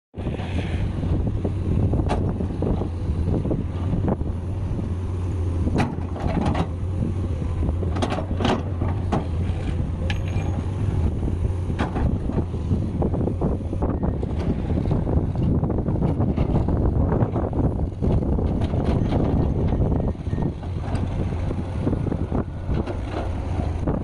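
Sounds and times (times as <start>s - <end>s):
excavator diesel engine running: 0.2s - 24.0s.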